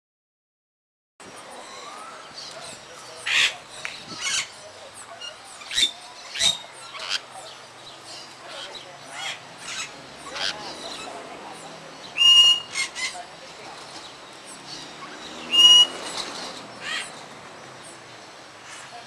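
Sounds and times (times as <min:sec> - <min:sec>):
birds chirping and chattering: 0:01.2 - 0:19.0
parakeets squawking: 0:01.5 - 0:19.0.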